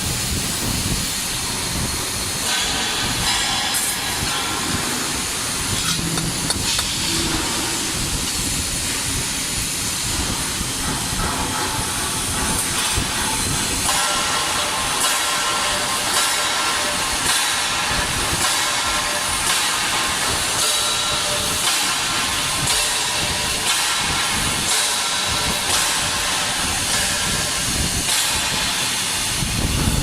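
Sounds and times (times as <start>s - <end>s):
welding arc hissing: 0.0s - 30.0s.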